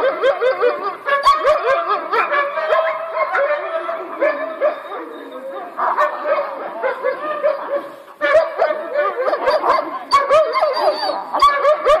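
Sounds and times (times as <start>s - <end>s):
dog barking and yelping: 0.0s - 12.0s.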